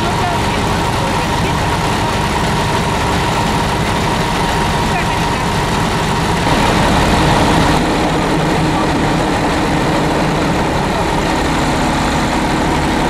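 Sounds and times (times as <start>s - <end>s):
fire engine motor droning: 0.0s - 13.0s
thin steady whine: 0.0s - 13.0s.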